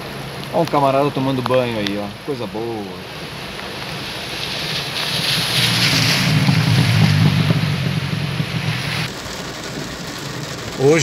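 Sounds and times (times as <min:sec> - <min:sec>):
heavy rain: 0:00.0 - 0:11.0
truck engine rumble: 0:00.0 - 0:11.0
tyres hissing through water: 0:00.0 - 0:11.0.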